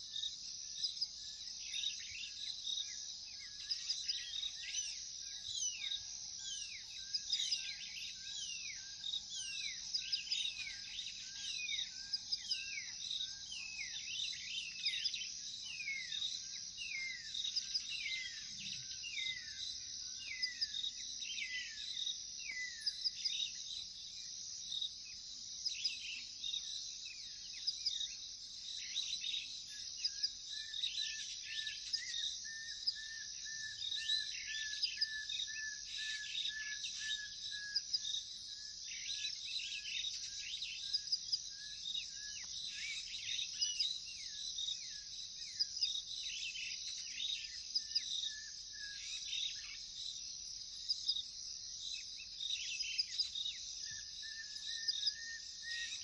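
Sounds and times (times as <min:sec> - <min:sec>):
birds singing: 0:00.0 - 0:56.0
crickets and insects chorus: 0:00.0 - 0:56.0.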